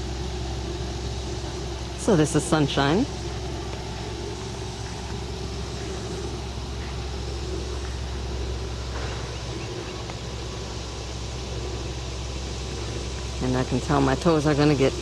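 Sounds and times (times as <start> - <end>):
low rumble with hum: 0.0 - 15.0.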